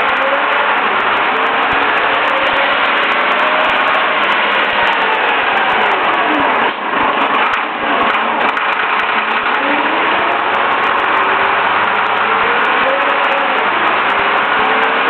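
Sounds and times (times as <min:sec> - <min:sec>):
bus engine running: 0:00.0 - 0:15.0
road noise: 0:00.0 - 0:15.0.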